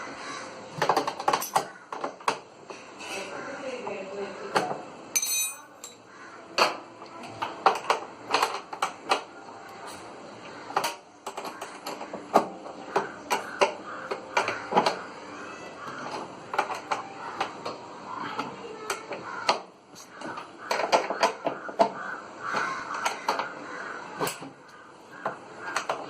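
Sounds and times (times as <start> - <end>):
tools clicking and knocking: 0.8 - 2.8, 4.5 - 6.0, 6.6 - 10.0, 10.7 - 15.1, 15.9 - 23.6, 24.2 - 26.0.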